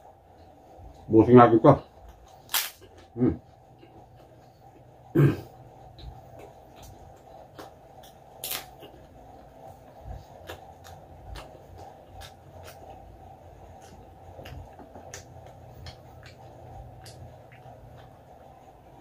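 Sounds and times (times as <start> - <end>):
steady low hum: 0.0 - 19.0
chewing crispy food: 2.1 - 19.0.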